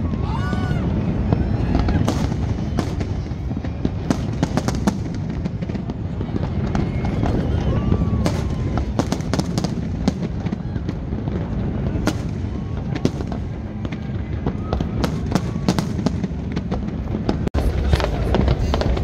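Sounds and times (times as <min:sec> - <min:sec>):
fireworks cracking and popping: 0:00.0 - 0:19.0.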